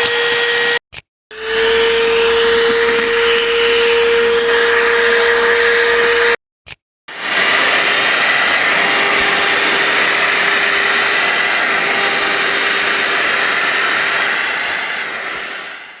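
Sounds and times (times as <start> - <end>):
cordless vacuum cleaner running: 0.0 - 6.4, 7.1 - 16.0.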